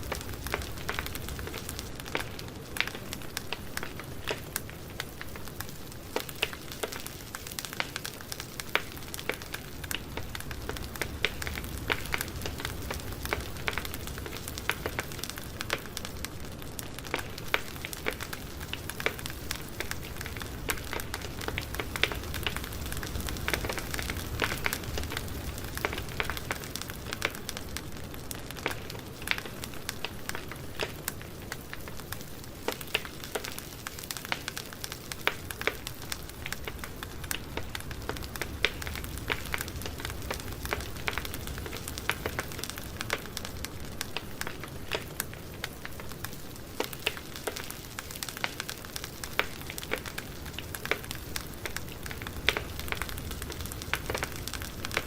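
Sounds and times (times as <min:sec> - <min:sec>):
rush of flames: 0:00.0 - 0:55.0
wood popping and crackling: 0:00.0 - 0:55.0.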